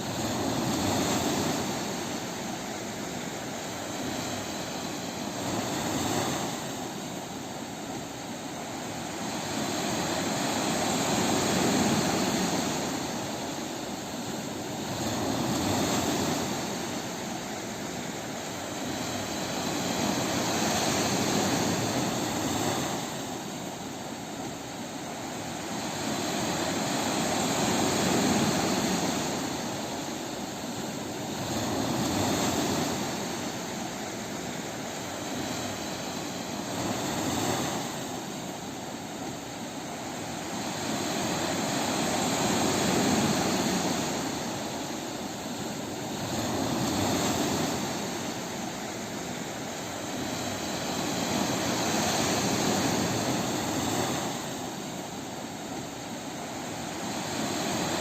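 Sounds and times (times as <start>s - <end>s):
ocean waves breaking on a beach: 0.0s - 58.0s.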